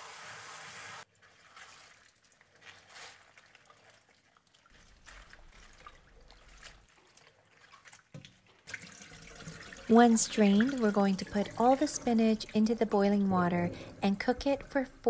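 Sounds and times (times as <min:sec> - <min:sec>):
water drips and splashes: 0:00.1 - 0:15.0
tap water pouring into colander: 0:01.2 - 0:14.9.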